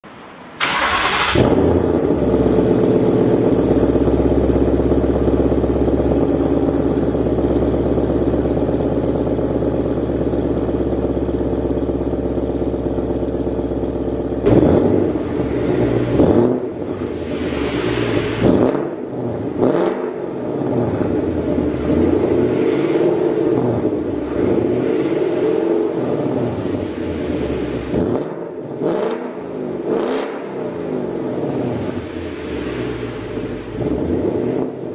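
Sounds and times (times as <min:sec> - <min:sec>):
car engine idling and revving: 0:00.6 - 0:34.9.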